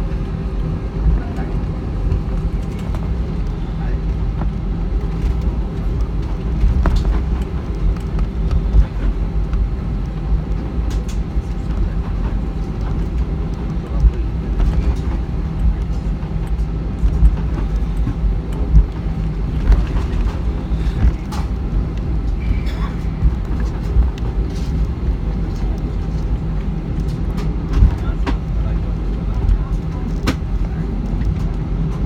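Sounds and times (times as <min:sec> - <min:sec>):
faint engine whine: 0:00.0 - 0:32.0
jet engine low rumble: 0:00.0 - 0:32.0.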